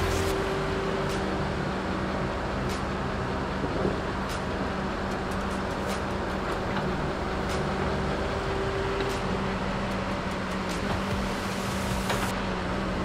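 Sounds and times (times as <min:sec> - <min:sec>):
log loader diesel engine: 0:00.0 - 0:13.0
skidder engines: 0:00.0 - 0:13.0.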